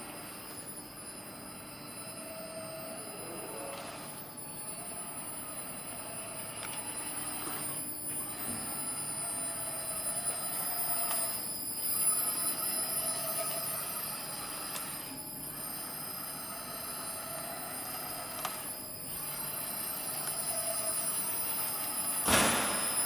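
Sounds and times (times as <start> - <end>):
machine motors whining: 0.0 - 23.0.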